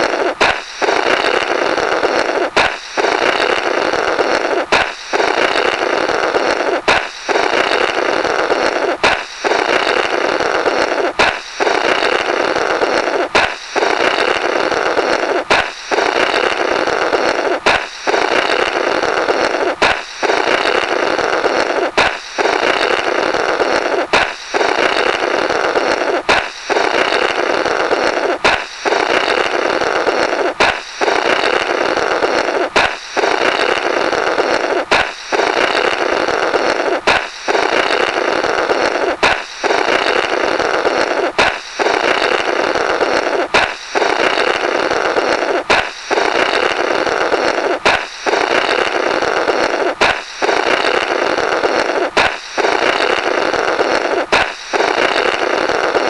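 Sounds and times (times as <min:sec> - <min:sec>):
air buzzing through rubber: 0:00.0 - 0:56.0
balloon popping: 0:00.0 - 0:56.0.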